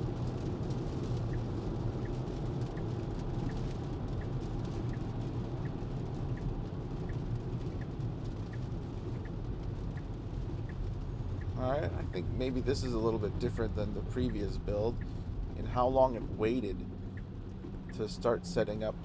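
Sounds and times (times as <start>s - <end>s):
road and tyre noise in car: 0.0s - 19.0s
turn signal ticking: 0.0s - 19.0s.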